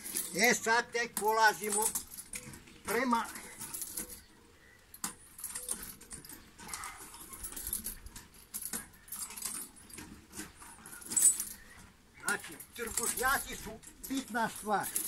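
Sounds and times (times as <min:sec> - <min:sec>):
swing chains clinking and rattling: 0:00.0 - 0:15.0.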